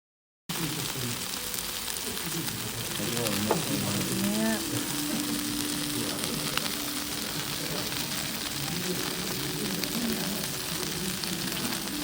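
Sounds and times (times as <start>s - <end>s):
noodles sizzling on hot plate: 0.5s - 12.0s
sauce bubbling and crackling: 0.5s - 12.0s.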